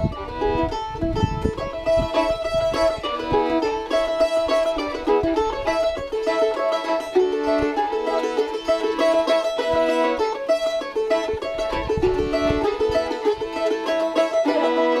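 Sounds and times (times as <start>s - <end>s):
fiddle melody: 0.0s - 15.0s
mandolin picked notes: 0.0s - 15.0s.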